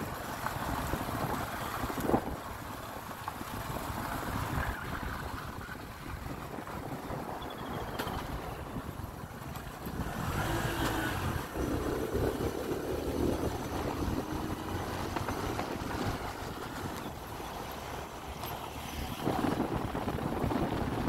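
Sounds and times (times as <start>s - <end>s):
motorbike engine droning: 0.1s - 21.0s.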